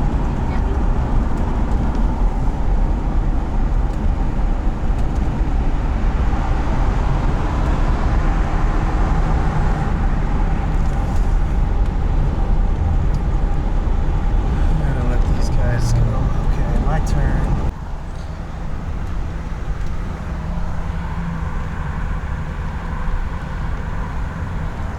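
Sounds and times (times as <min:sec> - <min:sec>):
tyre and road noise: 0:00.0 - 0:24.9
van engine driving: 0:00.0 - 0:24.9.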